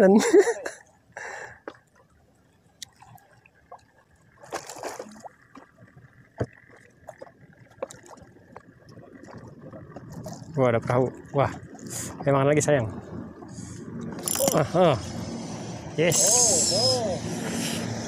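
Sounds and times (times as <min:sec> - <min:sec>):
water lapping against boat: 0:00.0 - 0:14.6.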